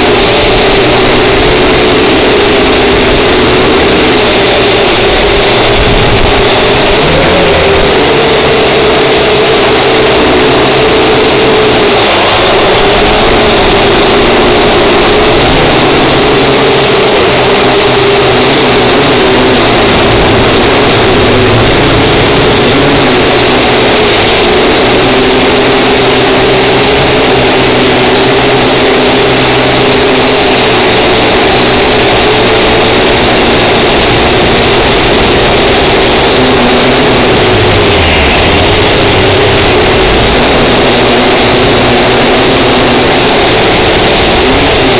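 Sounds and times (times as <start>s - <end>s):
drone propellers whining: 0.0s - 44.9s.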